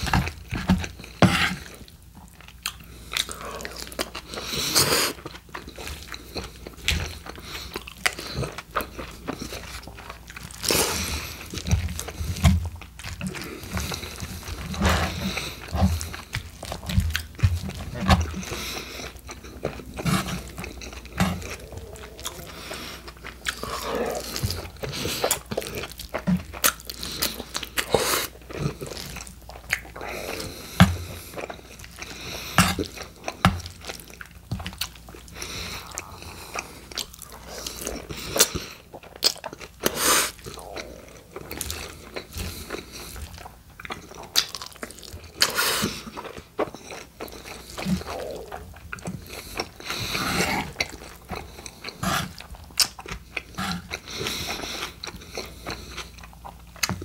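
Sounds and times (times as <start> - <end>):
wet open-mouthed chewing: 0.0 - 57.0.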